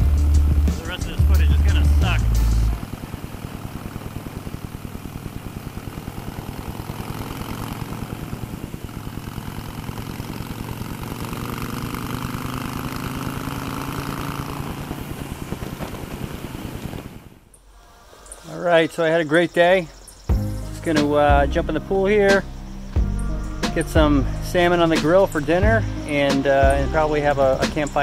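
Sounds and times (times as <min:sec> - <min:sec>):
motorcycle engine riding: 0:00.0 - 0:28.0.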